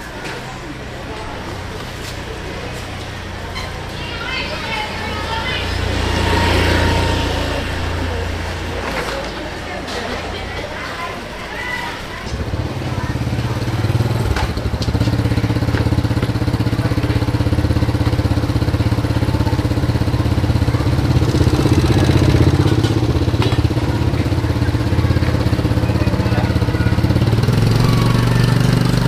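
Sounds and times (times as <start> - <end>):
small motorcycle engine running: 0.2 - 9.7, 12.2 - 29.0.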